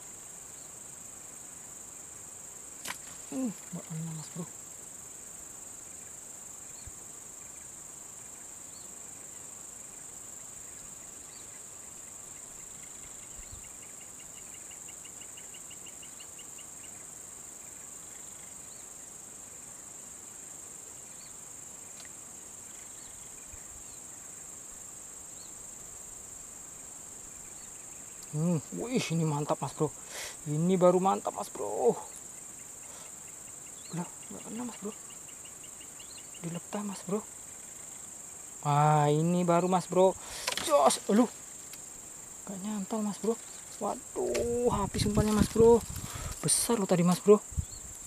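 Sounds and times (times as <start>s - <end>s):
fast pulsed insect trill: 0.0s - 48.0s
high-pitched insect chorus: 0.0s - 48.0s.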